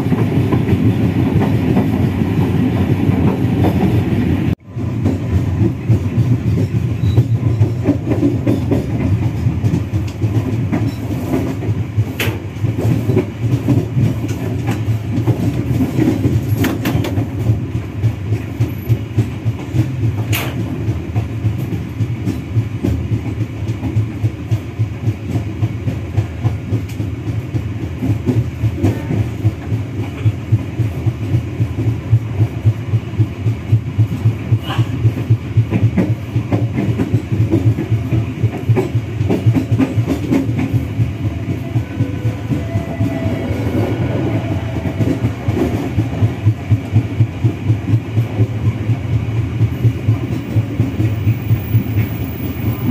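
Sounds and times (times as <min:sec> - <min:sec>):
train carriages rumbling: 0:00.0 - 0:52.9.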